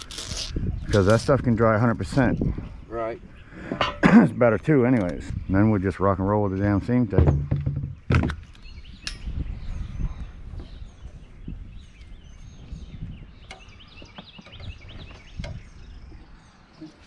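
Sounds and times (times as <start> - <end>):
birds chirping: 0.1 - 17.0.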